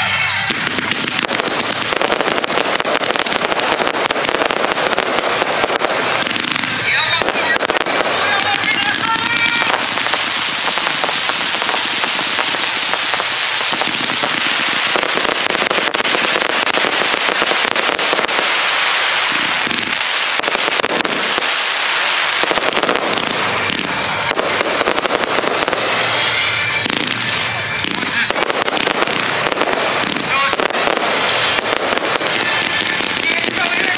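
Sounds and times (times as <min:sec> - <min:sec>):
fireworks crackling: 0:00.0 - 0:33.9.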